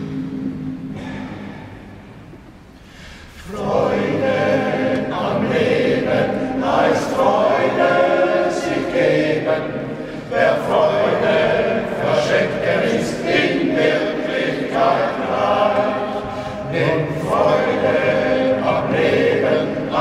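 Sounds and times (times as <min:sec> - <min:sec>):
men's choir singing: 0:03.4 - 0:20.0.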